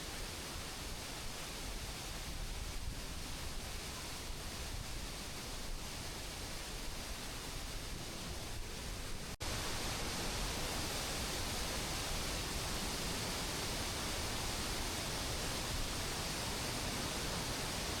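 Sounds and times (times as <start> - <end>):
waterfall rushing: 3.1 - 18.0.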